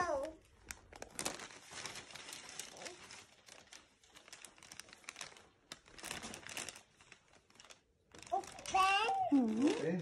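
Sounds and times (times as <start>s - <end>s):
gift wrapping crinkling: 0.0s - 10.0s.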